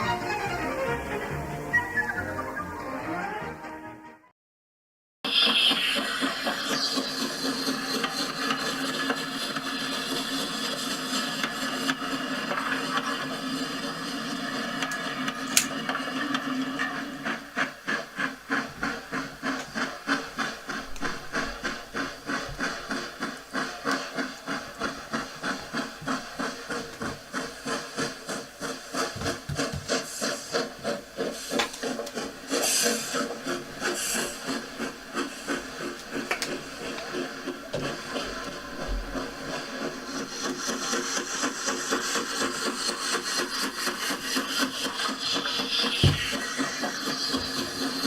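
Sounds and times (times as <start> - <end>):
model train wheels clicking: 5.3 - 48.0
model train motor whirr: 5.4 - 48.0.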